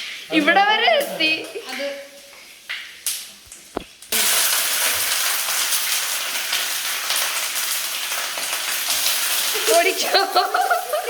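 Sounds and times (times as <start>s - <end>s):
beans frying in hot oil: 0.0s - 11.0s.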